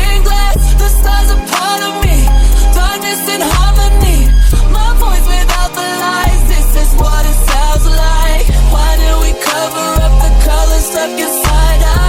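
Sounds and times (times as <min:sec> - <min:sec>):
hip hop pop song with vocals: 0:00.0 - 0:12.0.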